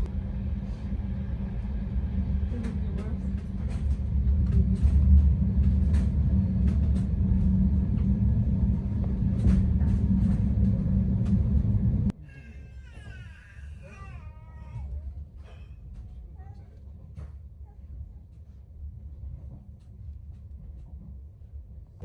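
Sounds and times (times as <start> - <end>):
train carriage rumble: 0.0 - 22.0.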